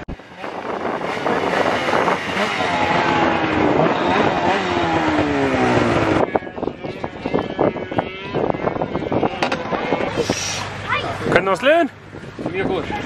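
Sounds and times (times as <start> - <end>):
snowmobile engines running: 0.0 - 13.0.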